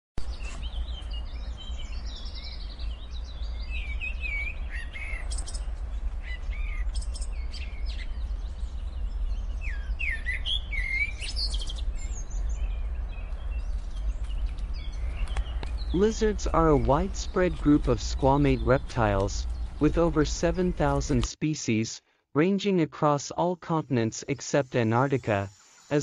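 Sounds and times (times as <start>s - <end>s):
wild birds chirping and singing: 0.2s - 21.2s
steady low hum: 0.2s - 21.3s.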